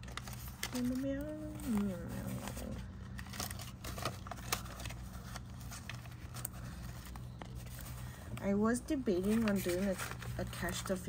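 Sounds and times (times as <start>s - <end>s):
paper banknotes rustling: 0.0s - 11.0s
steady low hum: 0.0s - 11.0s.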